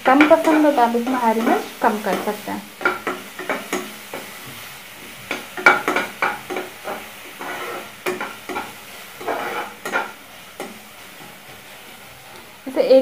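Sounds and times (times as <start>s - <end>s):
light sizzle: 0.0s - 13.0s
spatula scraping a pan: 0.1s - 12.6s.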